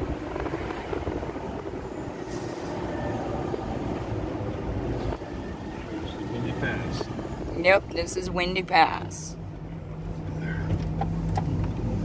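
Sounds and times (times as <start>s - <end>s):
tow truck road rumble: 0.0s - 12.0s.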